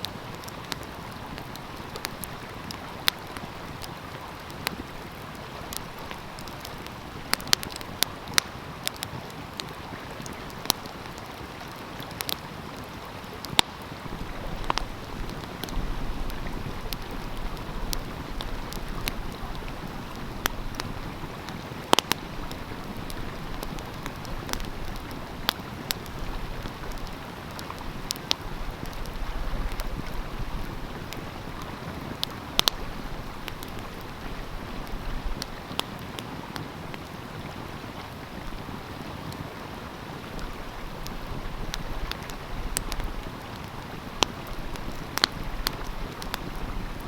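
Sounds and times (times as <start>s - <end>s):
stream flowing: 0.0s - 47.0s
wood fire crackling and popping: 0.0s - 47.0s.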